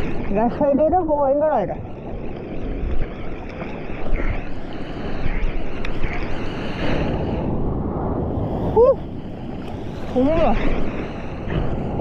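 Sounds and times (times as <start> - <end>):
waves breaking: 0.0 - 12.0
wind rumbling on microphone: 0.0 - 12.0.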